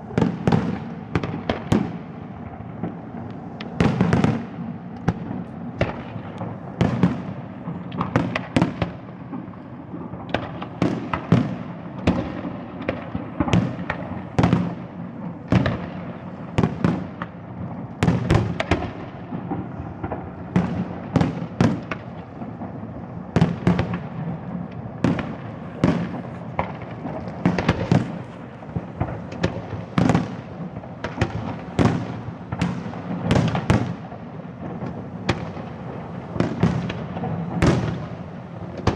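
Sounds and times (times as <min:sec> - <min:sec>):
fireworks bursts and bangs: 0:00.0 - 0:38.9.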